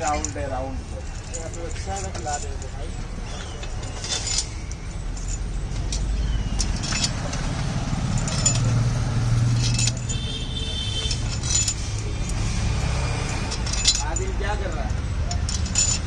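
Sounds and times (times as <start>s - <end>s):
high metallic ringing: 0.0s - 16.0s
metal tools clinking: 0.0s - 16.0s.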